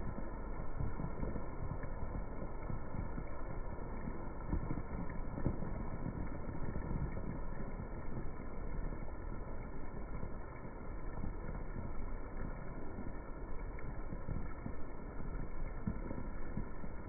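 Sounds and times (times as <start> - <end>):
heavy rain on brick paving: 0.0 - 17.0.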